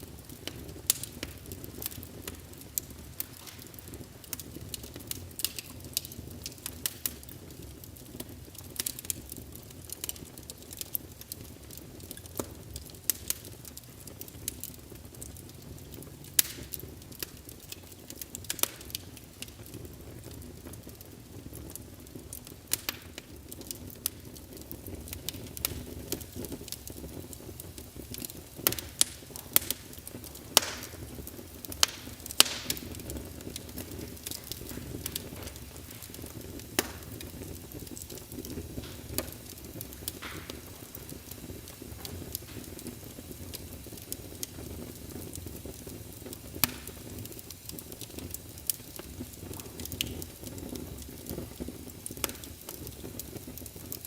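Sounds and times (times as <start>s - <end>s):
low rumble of flame: 0.0s - 54.0s
wood fire crackling and popping: 0.0s - 54.0s.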